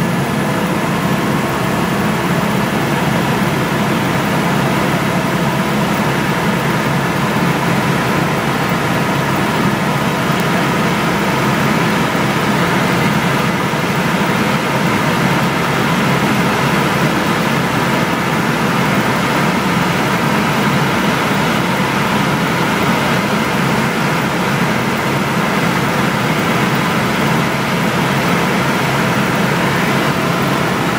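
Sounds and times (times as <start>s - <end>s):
mechanical drone with low hum: 0.0s - 30.9s.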